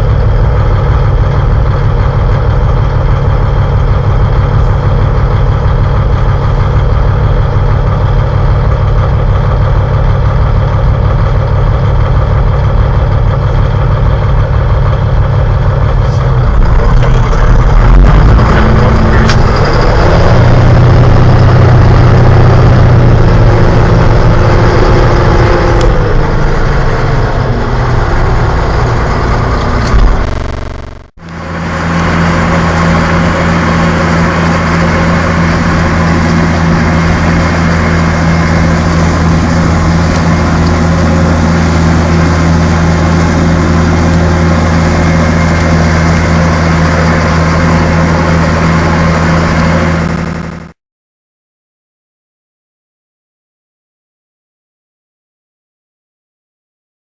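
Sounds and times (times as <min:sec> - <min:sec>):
tractor diesel engine running: 0:00.0 - 0:50.7.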